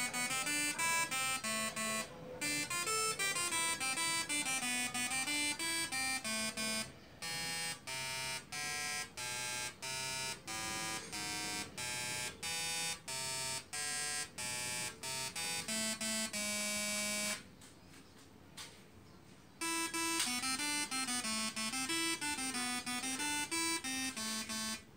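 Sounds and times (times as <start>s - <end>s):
tesla coil buzzy melody: 0.0s - 17.6s, 19.6s - 24.9s.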